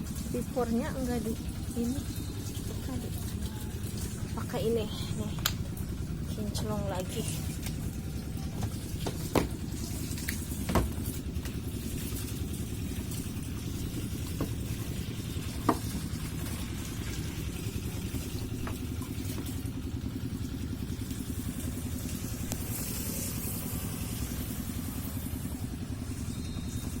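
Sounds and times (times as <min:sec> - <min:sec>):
washing machine motor humming: 0:00.0 - 0:27.0.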